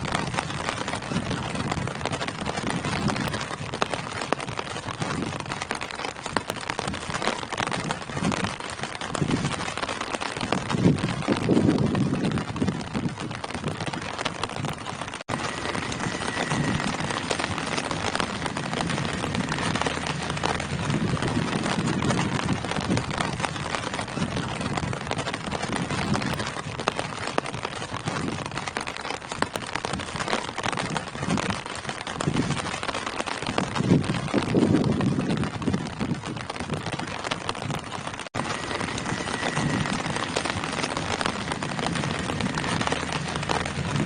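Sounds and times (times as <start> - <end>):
rain falling on foliage: 0.0 - 44.0.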